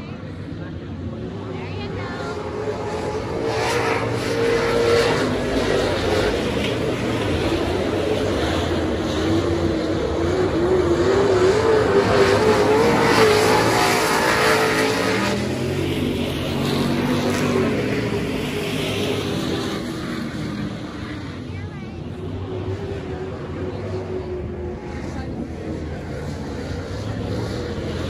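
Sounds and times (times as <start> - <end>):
race car engine accelerating: 0.0 - 28.0
second lower engine: 0.0 - 28.0.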